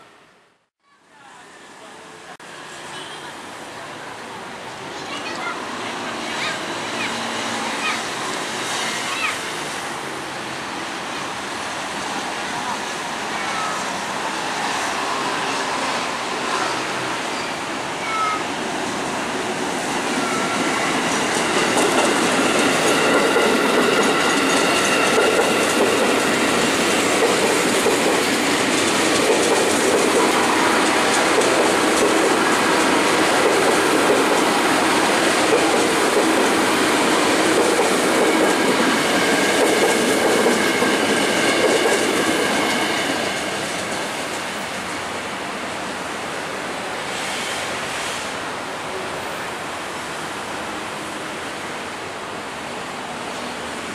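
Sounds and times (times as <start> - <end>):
high train whine: 0.0 - 53.9
train wheels rumbling on rail: 4.7 - 53.9.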